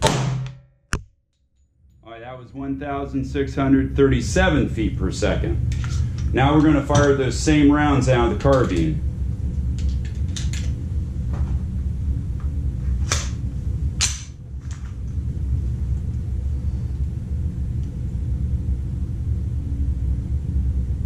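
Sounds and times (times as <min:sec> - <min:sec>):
steady low rumble: 0:01.8 - 0:21.0.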